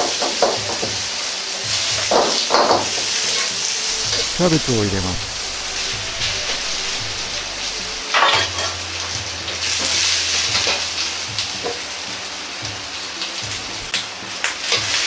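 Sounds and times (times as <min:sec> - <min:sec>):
cabbage sizzling in a wok: 0:00.0 - 0:04.1, 0:06.5 - 0:15.0.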